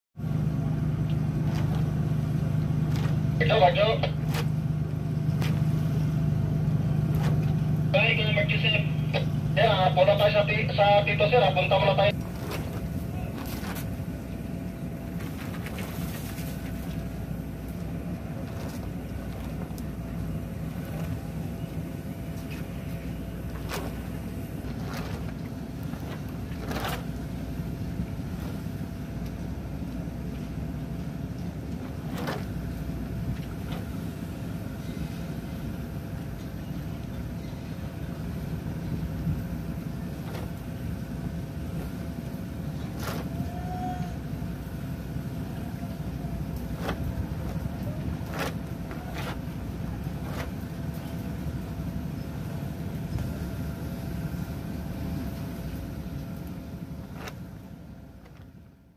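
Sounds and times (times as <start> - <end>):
marine engine rumble: 0.2 - 58.9
thin steady hum: 0.2 - 58.9.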